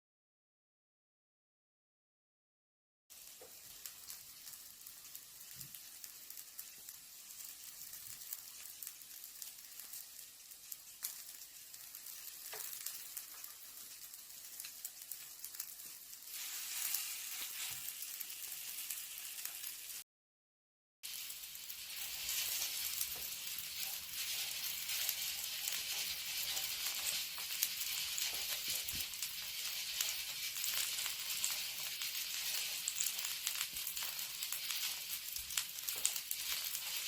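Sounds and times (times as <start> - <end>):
food sizzling in a pan: 3.1 - 20.1, 21.0 - 37.0.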